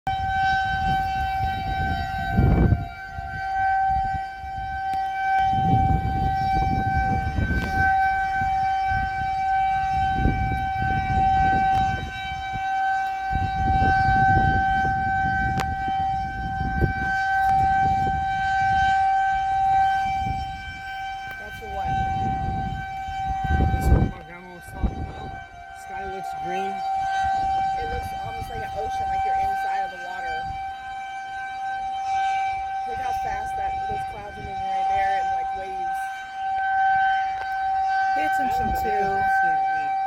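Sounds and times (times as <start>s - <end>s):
civil defense siren steady tone: 0.0s - 40.0s.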